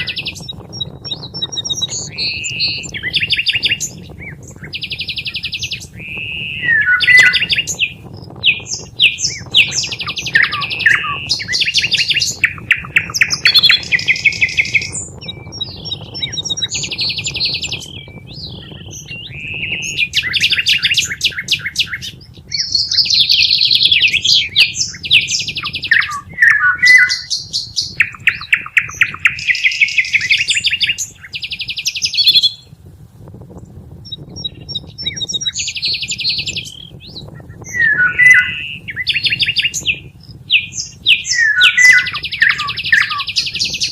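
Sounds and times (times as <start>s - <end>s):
bird buzzy trills: 0.0s - 32.6s, 34.0s - 43.9s.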